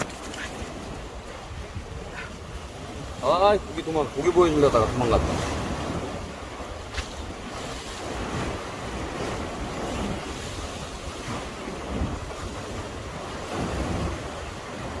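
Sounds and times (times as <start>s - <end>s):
sea swell washing against breakwater: 0.0s - 15.0s
wind buffeting microphone: 0.0s - 15.0s.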